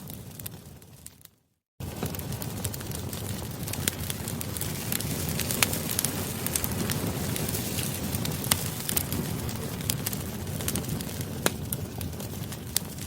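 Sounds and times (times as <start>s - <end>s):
campfire pops and snaps: 0.0s - 13.0s
hiss of burning wood: 1.8s - 13.0s.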